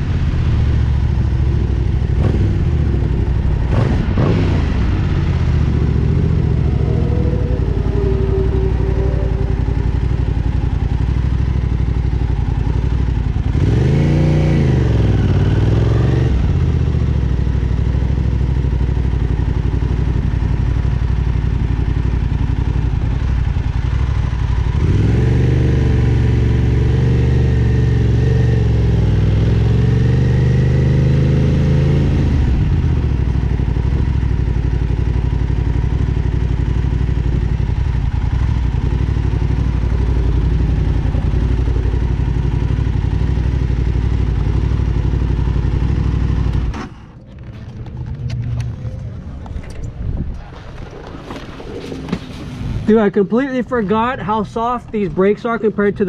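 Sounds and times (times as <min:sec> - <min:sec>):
motorcycle engine low revs: 0:00.3 - 0:53.0.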